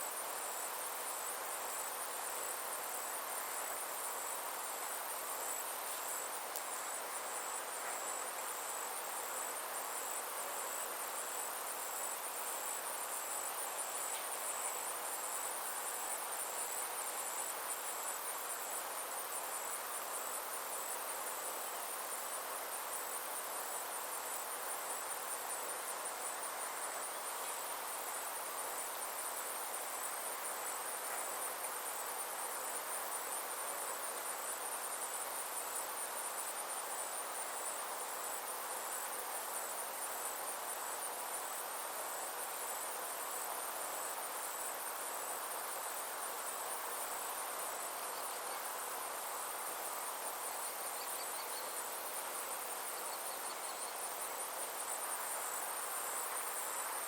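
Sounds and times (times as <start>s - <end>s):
insects trilling: 0.0s - 57.0s
soft continuous hiss: 0.0s - 57.0s.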